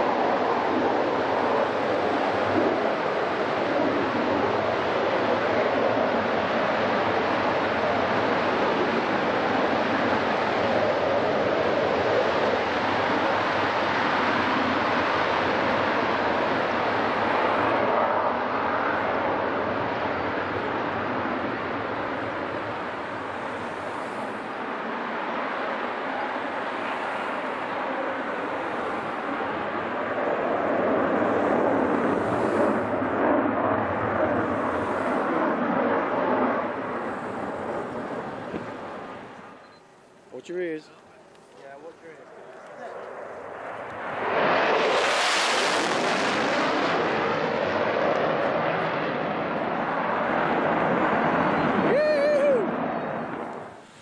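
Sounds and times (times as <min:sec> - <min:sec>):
jet taking off roaring: 0:00.0 - 0:54.0.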